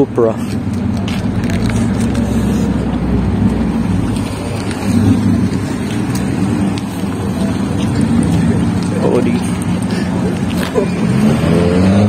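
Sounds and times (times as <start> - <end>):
car engine low hum: 0.0 - 12.0.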